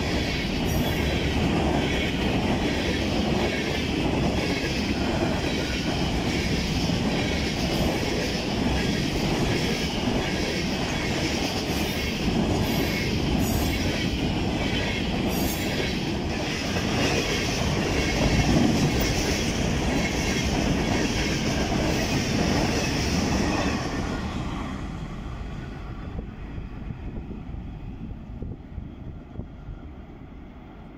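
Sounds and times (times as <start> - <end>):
freight train rolling past: 0.0 - 30.9.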